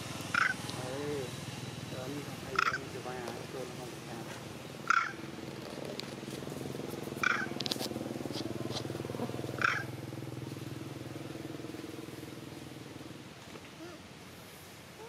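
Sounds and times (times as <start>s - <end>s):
small engine running: 0.0s - 13.4s.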